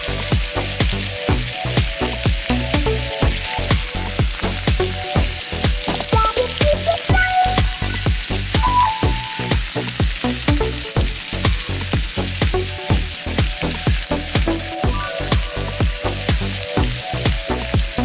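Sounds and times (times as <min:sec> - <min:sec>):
electronic background music: 0:00.0 - 0:18.0
stir-fry sizzling in a pan: 0:00.0 - 0:18.0.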